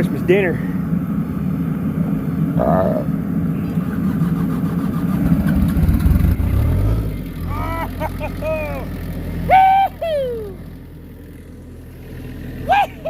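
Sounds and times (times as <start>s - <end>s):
diesel engine cranking and starting: 0.0s - 13.0s.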